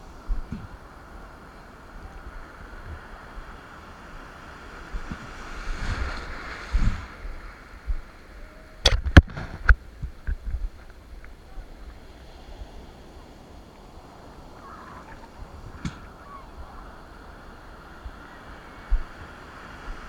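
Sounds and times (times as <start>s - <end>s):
wind noise on microphone: 0.0s - 13.2s, 14.5s - 20.0s
sea water rushing: 0.0s - 20.0s.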